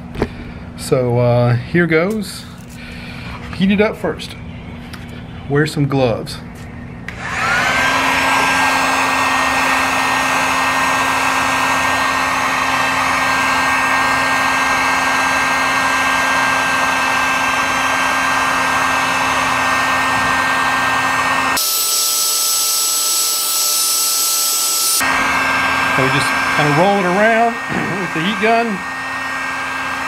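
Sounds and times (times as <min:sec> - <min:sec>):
heat gun fan humming and whining: 0:00.0 - 0:30.0.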